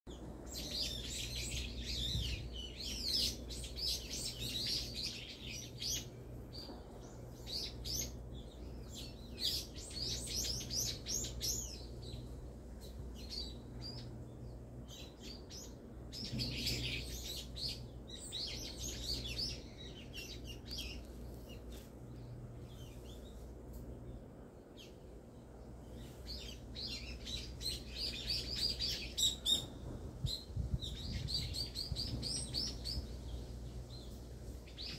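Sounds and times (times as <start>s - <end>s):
faint low hum: 0.1s - 34.9s
small birds chirping: 0.1s - 34.9s.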